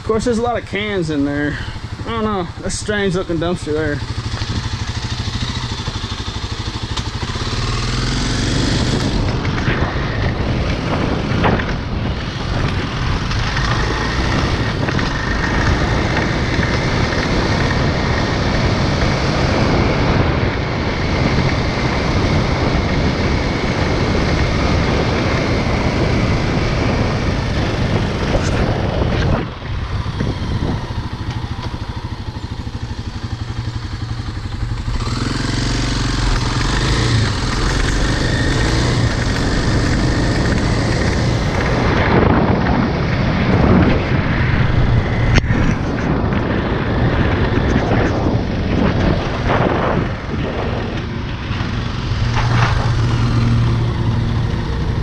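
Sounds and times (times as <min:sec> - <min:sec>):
motorcycle engine running: 0:00.0 - 0:55.0
steady rushing noise: 0:00.0 - 0:55.0.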